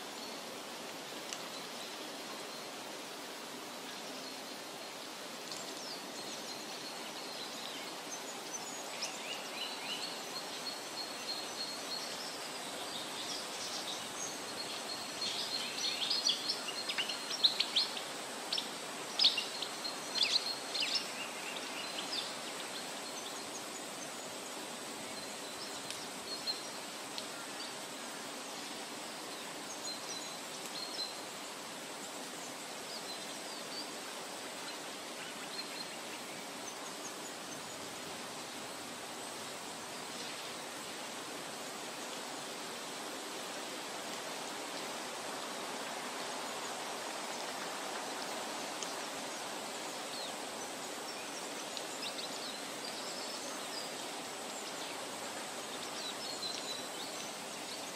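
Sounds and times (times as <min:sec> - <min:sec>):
outdoor ambient hiss: 0:00.0 - 0:57.9.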